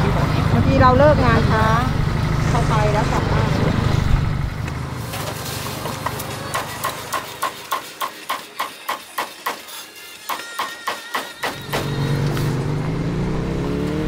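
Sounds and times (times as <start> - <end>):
street background noise: 0.0 - 14.0.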